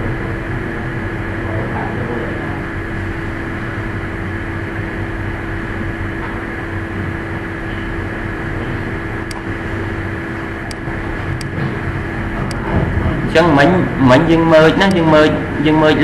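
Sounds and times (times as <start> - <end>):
fan hiss and hum: 0.0 - 16.0.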